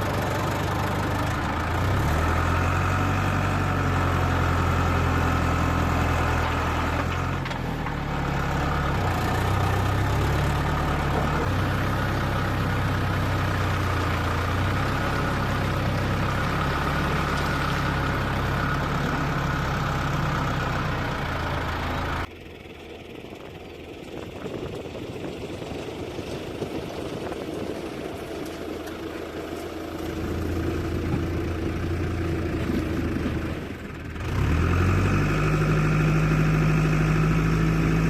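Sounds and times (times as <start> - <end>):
diesel engine of heavy machinery: 0.0 - 38.0.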